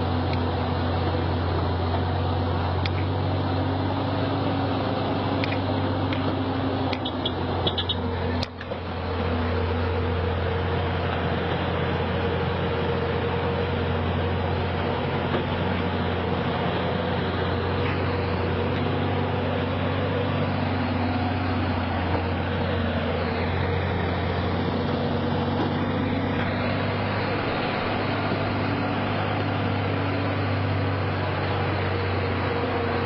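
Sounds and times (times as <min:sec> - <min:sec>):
heavy vehicle engine humming: 0:00.0 - 0:33.0.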